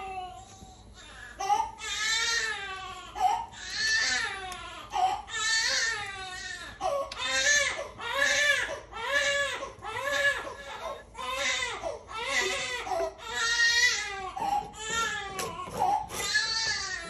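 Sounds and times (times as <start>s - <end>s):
baby crying: 0.0s - 17.0s.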